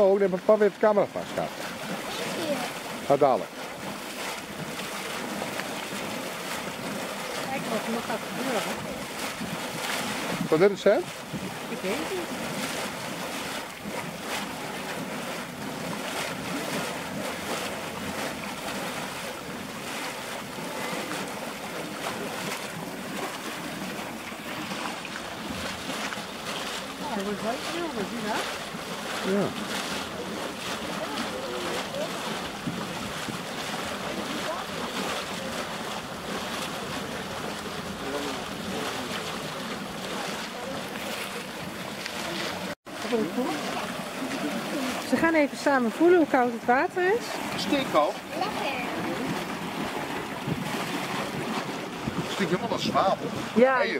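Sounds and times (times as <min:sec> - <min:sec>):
rushing water: 0:00.0 - 0:53.9
water splashing: 0:00.0 - 0:53.9.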